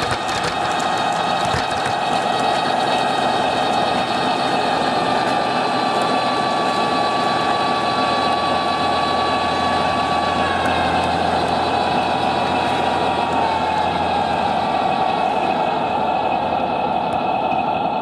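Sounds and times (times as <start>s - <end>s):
high whine: 0.0s - 18.0s
model locomotive diesel drone: 0.0s - 18.0s.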